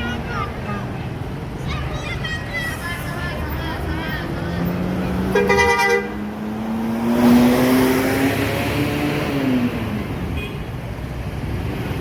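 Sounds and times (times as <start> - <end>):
bus engine accelerating: 0.0 - 10.3.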